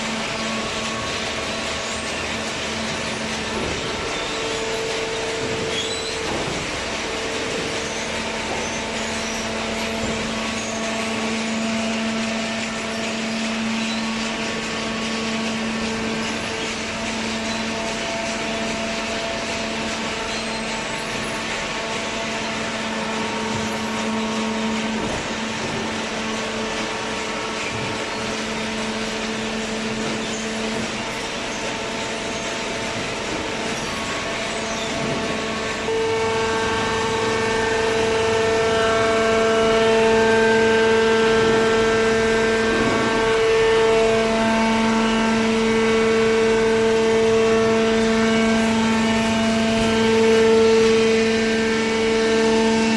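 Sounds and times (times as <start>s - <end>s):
baler motor hum and whine: 0.0s - 52.9s.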